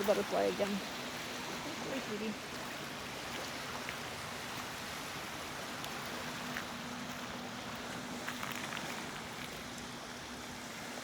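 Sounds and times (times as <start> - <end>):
water rushing at lakeshore: 0.0 - 11.0.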